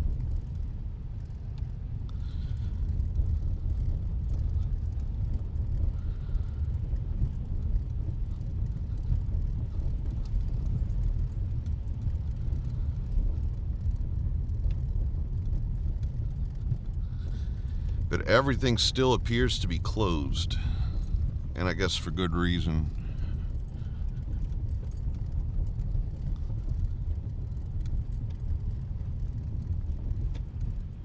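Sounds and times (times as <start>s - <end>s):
faint ticks: 0.0s - 18.1s, 22.7s - 31.0s.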